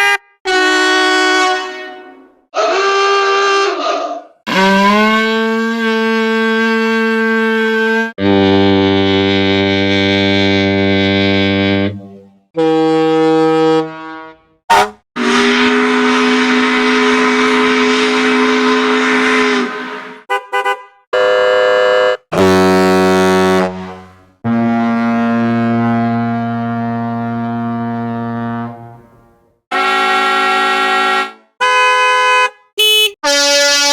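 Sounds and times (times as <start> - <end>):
foghorn blast: 0.0 - 2.4, 4.5 - 31.8
ship horn: 0.0 - 2.4, 4.5 - 33.9
fire engine horn toot: 0.0 - 3.6, 4.5 - 11.5, 12.6 - 29.1, 29.7 - 33.9
ambulance horn: 0.0 - 3.7, 4.5 - 29.1, 29.7 - 33.9.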